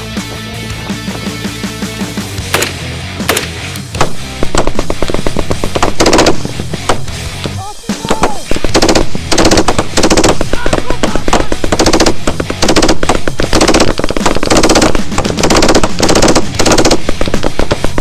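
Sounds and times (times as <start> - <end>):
machine gun firing in bursts: 2.4 - 7.2, 8.1 - 18.0.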